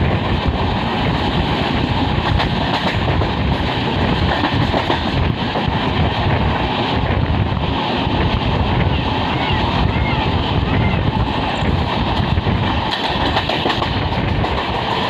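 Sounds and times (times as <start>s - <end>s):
rushing air: 0.0s - 15.0s
train wheels rumbling on rails: 0.0s - 15.0s.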